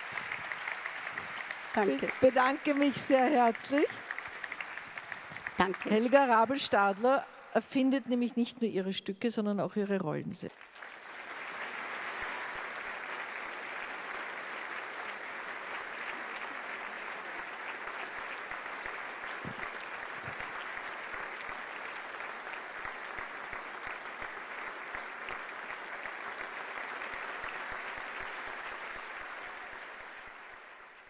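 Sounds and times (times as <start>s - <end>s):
audience applauding: 0.0s - 7.3s, 10.5s - 31.0s.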